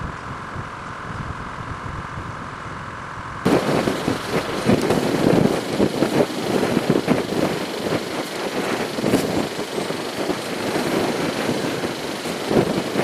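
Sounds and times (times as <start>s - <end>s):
diesel locomotive engine rumbling: 0.0s - 13.0s.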